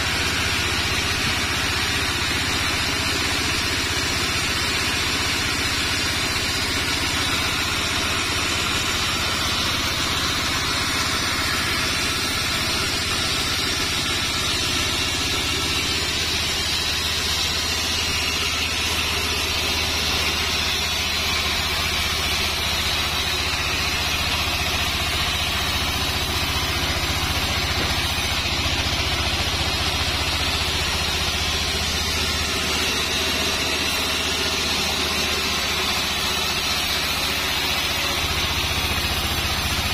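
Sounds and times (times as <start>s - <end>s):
band saw cutting through log: 0.0s - 39.9s.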